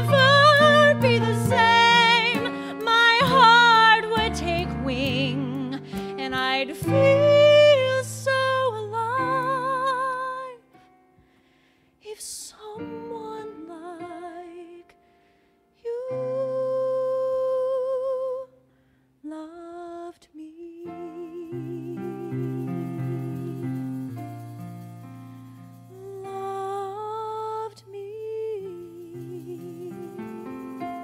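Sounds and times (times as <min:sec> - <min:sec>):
woman singing a ballad: 0:00.0 - 0:10.8, 0:12.0 - 0:15.0, 0:15.8 - 0:18.6, 0:19.2 - 0:23.8, 0:25.9 - 0:30.5.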